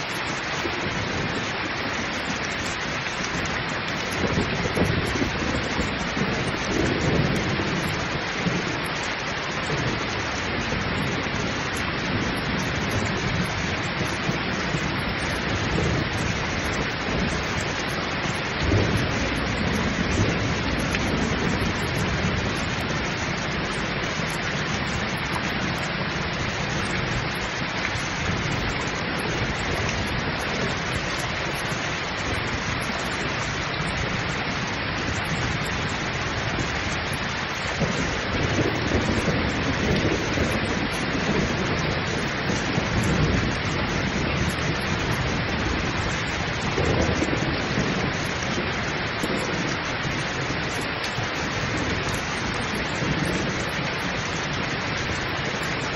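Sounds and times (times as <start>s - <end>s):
heavy rain pouring: 0.0s - 55.9s
low rolling thunder: 0.0s - 55.9s.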